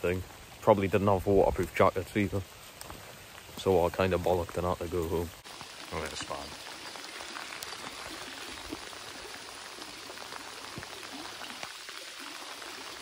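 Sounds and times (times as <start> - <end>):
raindrops ticking close by: 0.0 - 13.0.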